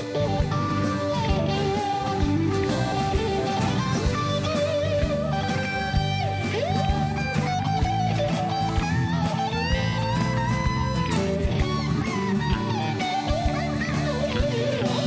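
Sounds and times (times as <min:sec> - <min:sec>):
drums: 0:00.0 - 0:15.0
electric guitar lead: 0:00.0 - 0:15.0.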